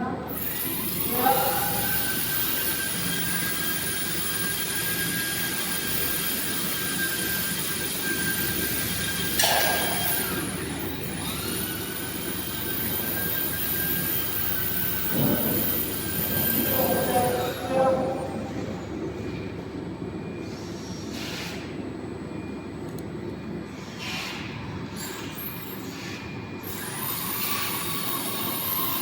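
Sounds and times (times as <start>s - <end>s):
machine spindle whine: 0.3s - 29.0s.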